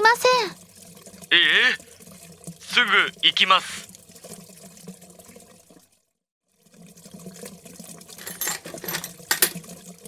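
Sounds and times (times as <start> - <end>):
toilet water running: 0.0 - 10.0.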